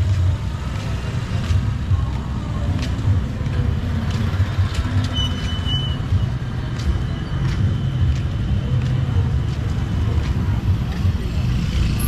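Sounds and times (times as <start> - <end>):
vehicle rumble with road noise: 0.0 - 12.0.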